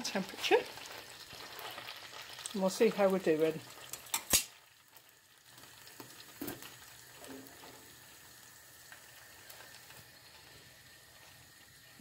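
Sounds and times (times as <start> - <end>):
fat sizzling: 0.0 - 12.0.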